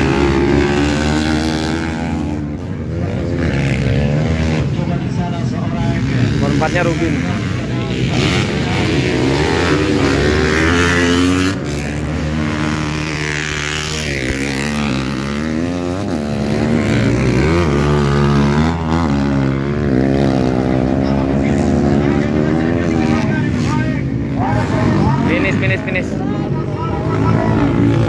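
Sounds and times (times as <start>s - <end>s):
motocross engines revving: 0.0s - 28.0s.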